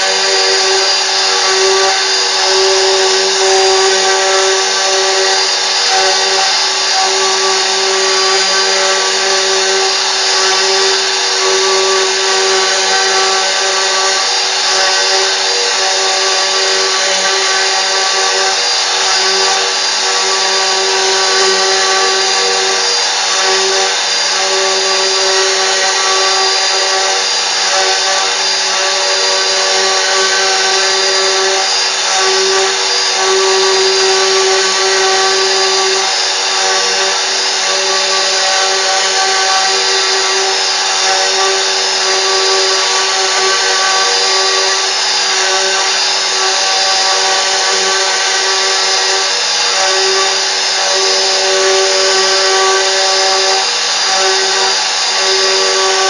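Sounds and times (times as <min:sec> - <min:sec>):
spindle motor whine: 0:00.0 - 0:56.0.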